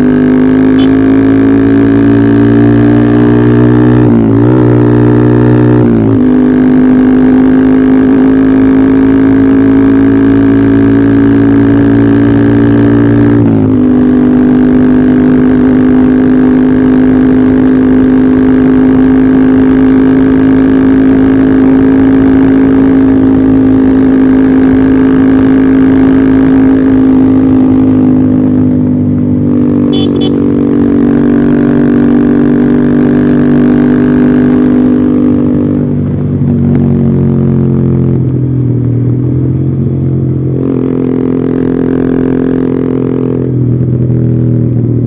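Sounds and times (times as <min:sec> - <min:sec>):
motorcycle engine running loudly: 0:00.0 - 0:45.0.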